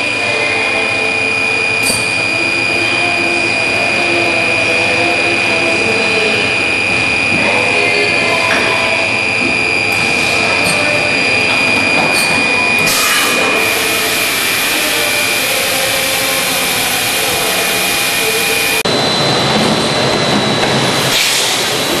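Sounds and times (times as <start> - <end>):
machine running with high whine: 0.0 - 22.0.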